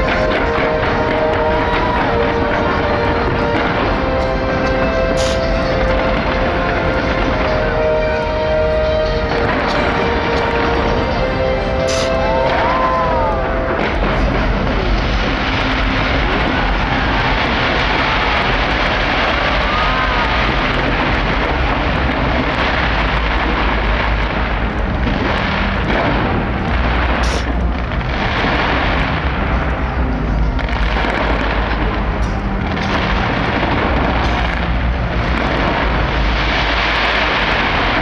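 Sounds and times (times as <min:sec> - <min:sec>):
deep continuous rumble: 0:00.0 - 0:38.0
fireworks bursts: 0:00.0 - 0:38.0.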